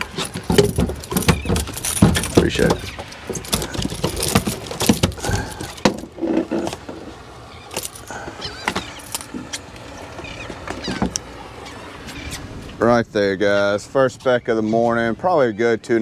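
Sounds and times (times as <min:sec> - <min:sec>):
fish and tackle rattling in boat: 0:00.0 - 0:15.6.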